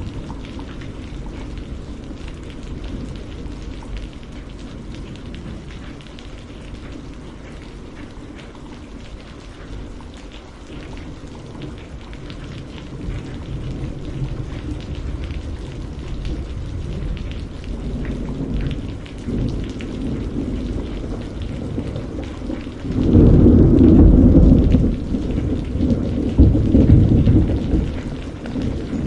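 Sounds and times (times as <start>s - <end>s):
rain patter: 0.0s - 29.0s.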